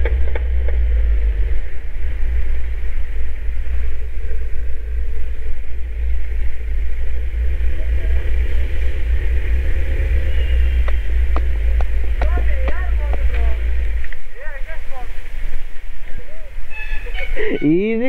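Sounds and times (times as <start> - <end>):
motorcycle engine running: 0.0 - 17.5
wind rumble on microphone: 0.0 - 17.6.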